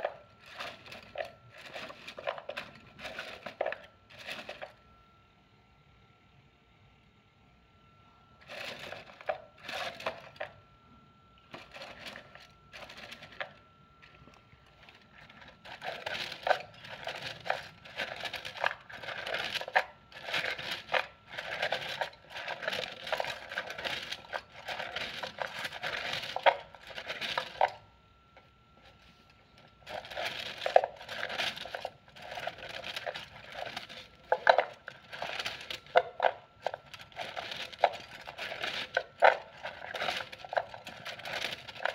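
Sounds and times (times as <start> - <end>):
wooden sticks rattling in holder: 0.0 - 4.7, 8.5 - 10.5, 11.5 - 27.8, 29.8 - 41.9.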